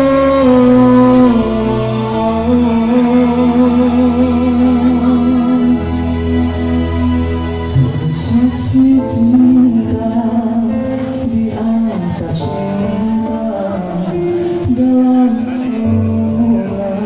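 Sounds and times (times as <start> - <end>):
man singing pop ballad: 0.0 - 6.6, 7.7 - 17.0
backing music track: 0.0 - 17.0.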